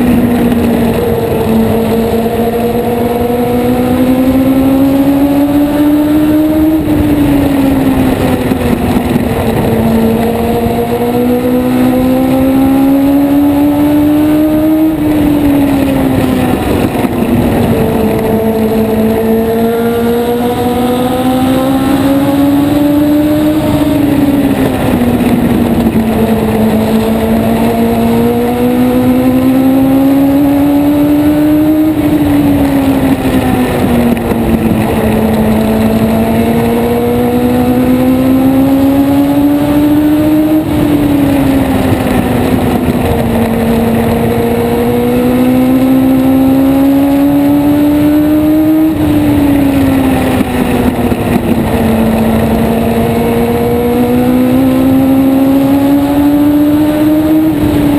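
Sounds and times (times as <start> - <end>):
race car engine at high revs: 0.0 - 57.9.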